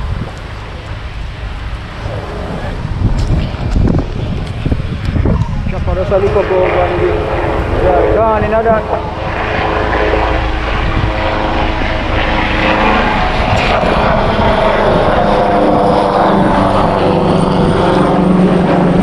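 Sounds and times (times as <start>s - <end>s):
road and wind noise: 0.0s - 19.0s
vehicle engine drone: 0.0s - 19.0s.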